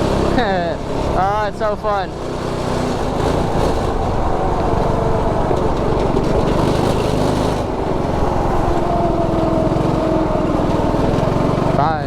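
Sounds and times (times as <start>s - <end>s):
go-kart engine running hard: 0.0s - 12.0s.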